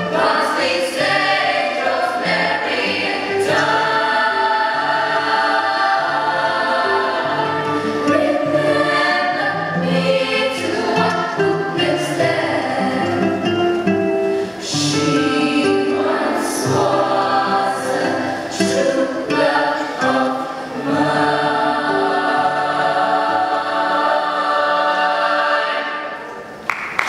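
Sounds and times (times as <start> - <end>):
choir singing in harmony: 0.0 - 26.6.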